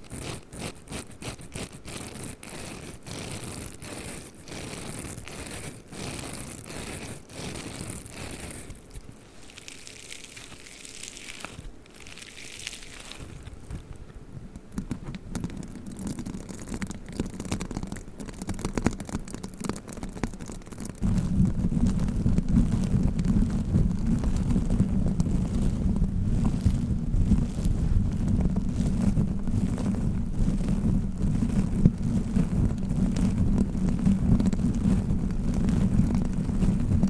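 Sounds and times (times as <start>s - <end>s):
hair roller scratchy rustling: 0.0s - 14.1s, 21.0s - 37.0s.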